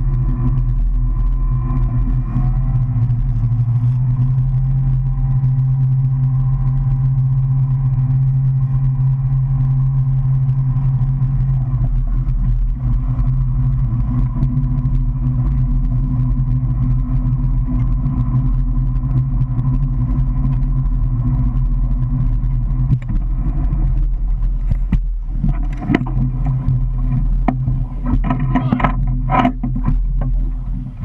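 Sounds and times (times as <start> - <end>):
motorboat engine drone: 0.0 - 31.0.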